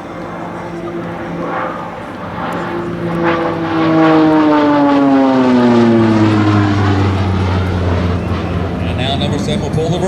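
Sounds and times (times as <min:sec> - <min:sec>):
propeller plane flying past: 0:00.0 - 0:10.0.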